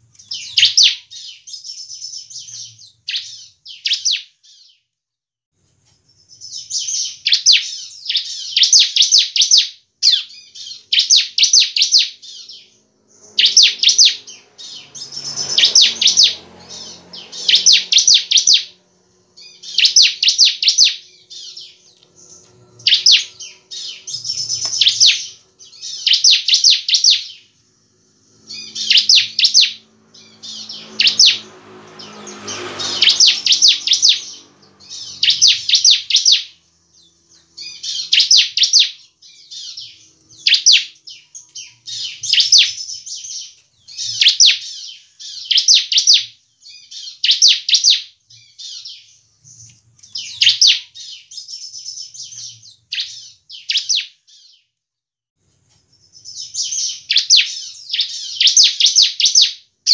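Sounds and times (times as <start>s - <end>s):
bird chattering song: 0.0s - 4.8s, 6.0s - 54.6s, 55.8s - 59.9s.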